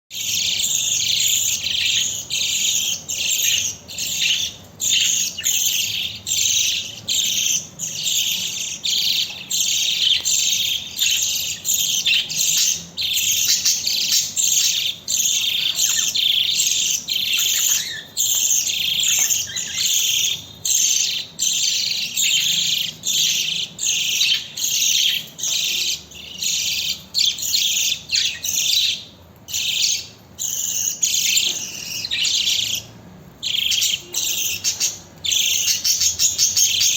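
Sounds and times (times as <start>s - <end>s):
bird chicks begging chirps: 0.1s - 36.9s.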